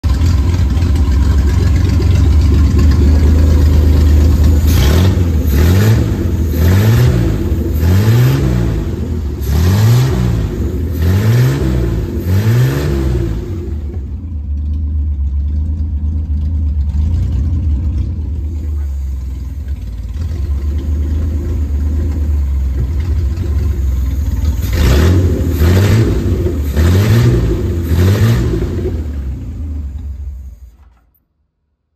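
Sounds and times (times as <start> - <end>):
car engine idling and revving: 0.0 - 31.1.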